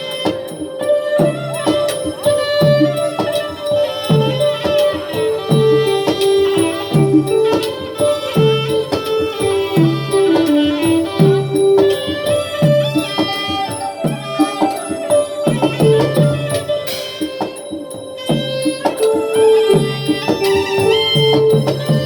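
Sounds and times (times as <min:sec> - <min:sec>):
low pitch-bending drum strokes: 0:00.0 - 0:22.0
sharp clicking percussion: 0:00.0 - 0:22.0.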